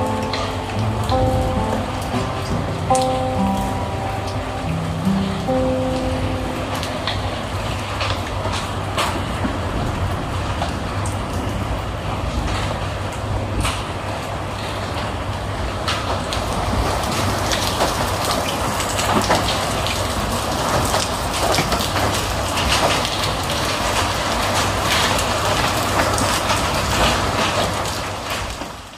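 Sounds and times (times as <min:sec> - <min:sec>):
hailstones ticking: 0:00.0 - 0:28.9
heavy rain hissing: 0:00.0 - 0:28.9.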